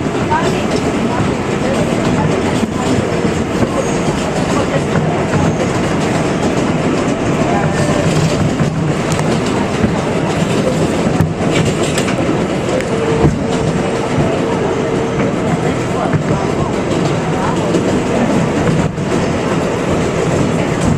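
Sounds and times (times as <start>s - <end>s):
subway train rumbling: 0.0s - 20.9s
wheels clacking over rail joints: 0.0s - 20.9s.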